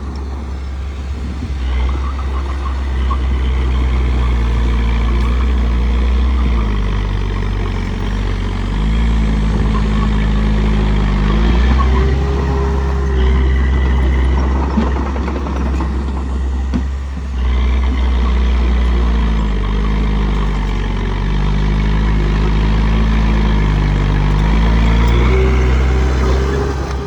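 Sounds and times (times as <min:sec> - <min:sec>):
bulldozer diesel engine: 0:00.0 - 0:27.0.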